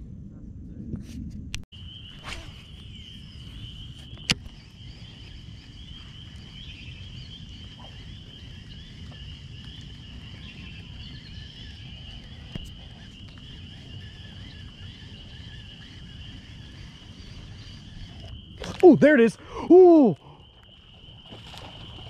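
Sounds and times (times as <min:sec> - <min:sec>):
low outdoor rumble: 0:00.0 - 0:18.6
chorus of frogs or insects: 0:01.8 - 0:22.0.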